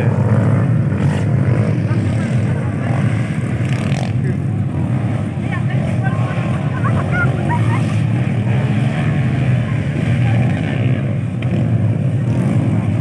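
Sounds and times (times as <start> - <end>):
dirt bike engines rumbling: 0.0 - 13.0.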